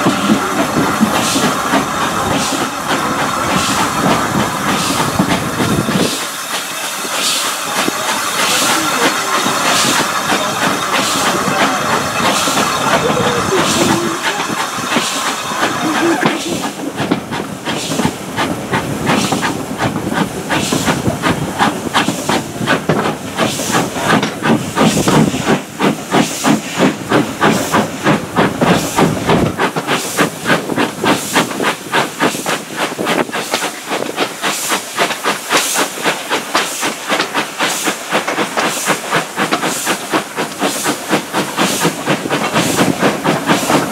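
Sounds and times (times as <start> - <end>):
steam hissing: 0.0 - 43.9
steam locomotive exhaust chuffing: 0.0 - 43.9
train wheels on rails: 0.0 - 43.9.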